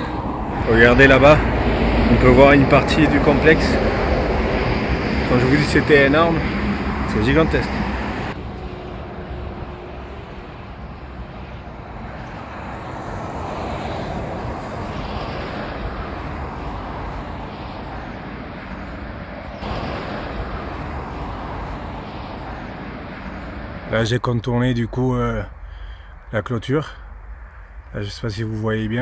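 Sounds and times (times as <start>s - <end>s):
hum of passing cars: 0.0s - 29.0s.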